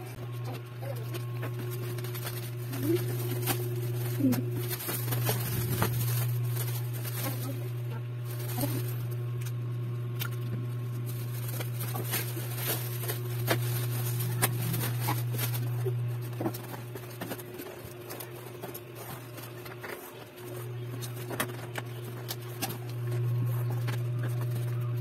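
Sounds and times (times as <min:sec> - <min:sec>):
plastic stretch wrap crinkling: 0:00.0 - 0:25.0
steady low hum: 0:00.0 - 0:25.0.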